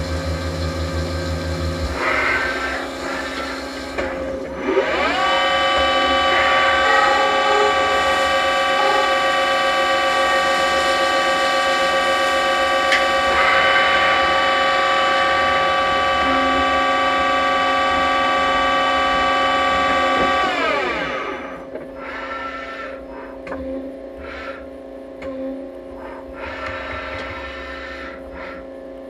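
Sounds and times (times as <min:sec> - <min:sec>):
lathe spindle whining: 0:00.0 - 0:29.0.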